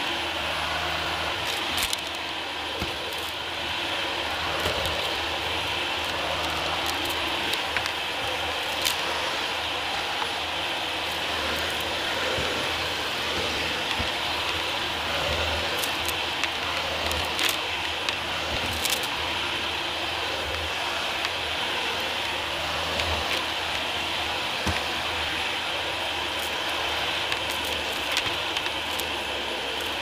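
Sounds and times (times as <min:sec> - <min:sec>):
vacuum cleaner whirring: 0:00.0 - 0:30.0
debris clicking in vacuum: 0:00.2 - 0:30.0.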